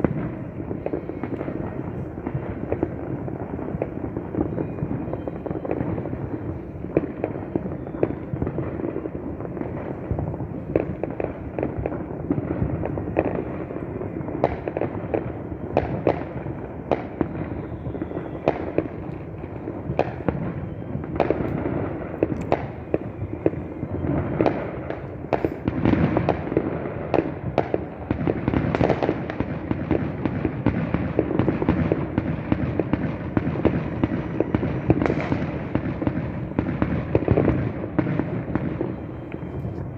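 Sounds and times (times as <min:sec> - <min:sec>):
distant fireworks rumble: 0:00.0 - 0:39.9
sharp firework bangs: 0:00.0 - 0:39.9.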